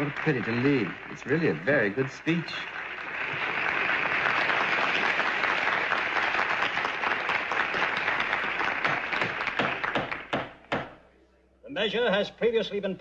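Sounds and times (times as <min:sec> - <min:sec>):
group applauding: 0:00.0 - 0:11.0.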